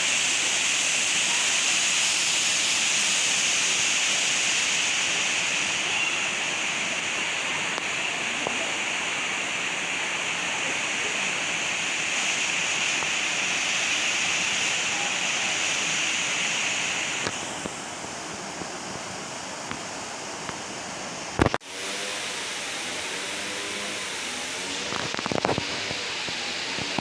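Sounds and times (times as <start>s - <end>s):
high steady hiss: 0.0s - 27.0s
water rushing: 0.0s - 27.0s.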